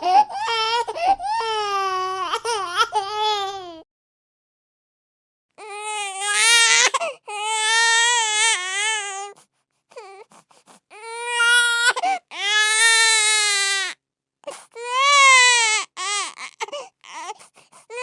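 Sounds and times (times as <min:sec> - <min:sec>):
infant crying: 0:00.0 - 0:03.8, 0:05.6 - 0:09.4, 0:10.0 - 0:18.0.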